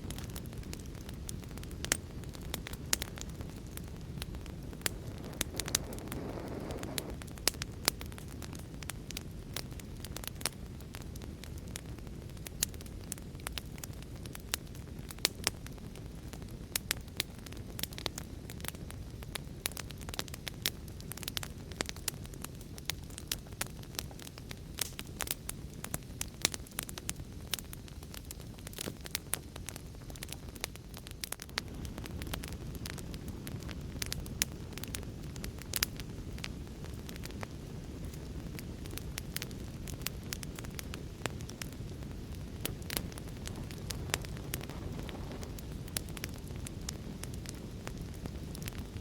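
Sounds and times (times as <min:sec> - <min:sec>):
fire hissing: 0:00.0 - 0:16.1, 0:24.6 - 0:49.0
fire crackling and popping: 0:00.0 - 0:49.0.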